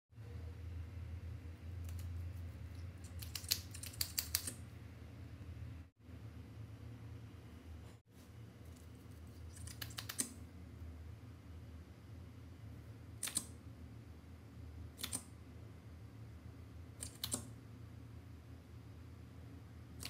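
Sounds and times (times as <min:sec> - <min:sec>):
low steady hum: 0:00.1 - 0:20.0.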